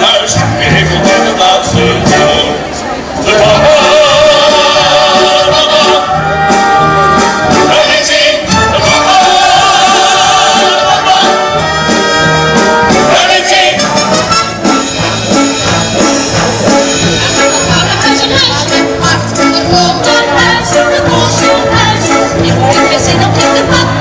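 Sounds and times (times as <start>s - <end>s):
ensemble singing: 0.0s - 24.0s
orchestra with brass and drums: 0.0s - 24.0s.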